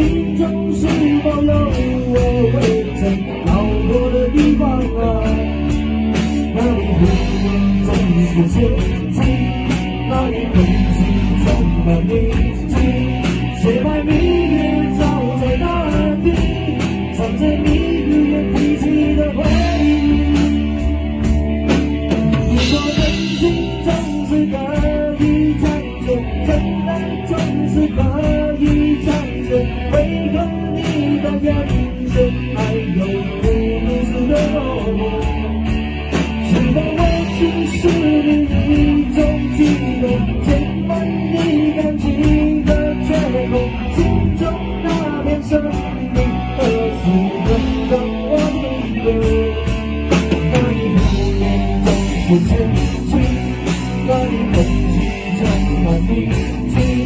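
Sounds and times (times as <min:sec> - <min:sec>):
person singing: 0:00.0 - 0:57.0
rock ballad band playing: 0:00.0 - 0:57.0.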